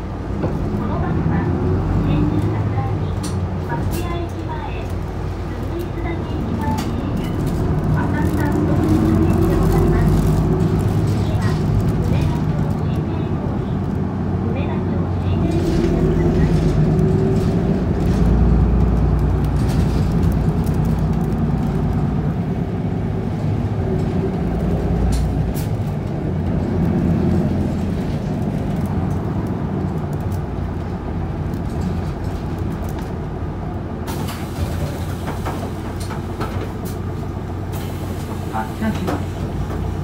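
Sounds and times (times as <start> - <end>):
bus diesel engine running: 0.0 - 40.0
tyre and road noise: 0.0 - 40.0.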